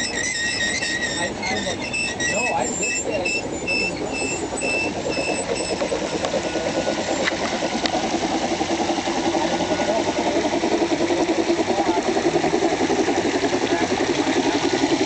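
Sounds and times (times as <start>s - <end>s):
engine-like running sound: 0.0s - 15.0s.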